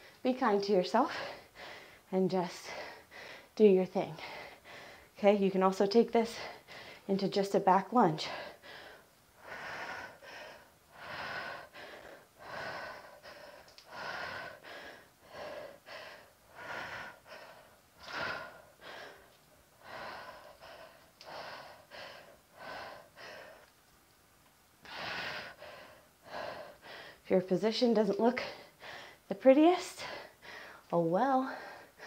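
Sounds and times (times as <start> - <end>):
woman breathing hard: 1.1 - 5.2, 6.3 - 7.1, 8.2 - 23.7, 24.8 - 27.2, 28.4 - 29.3, 29.9 - 32.0.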